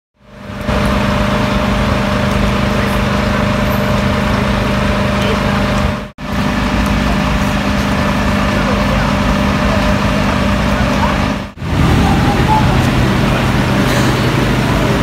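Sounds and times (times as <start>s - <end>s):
pump engine drone: 0.2s - 15.0s.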